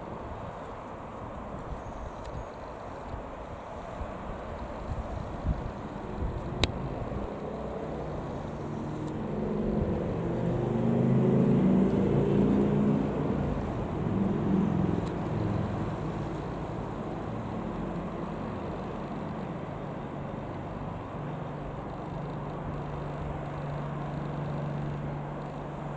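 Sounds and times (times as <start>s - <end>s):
passing engine drone: 4.6s - 25.9s.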